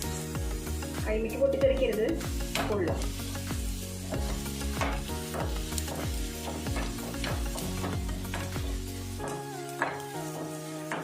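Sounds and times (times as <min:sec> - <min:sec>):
music with a steady beat: 0:00.0 - 0:11.0
onions sizzling in a pan: 0:00.0 - 0:11.0.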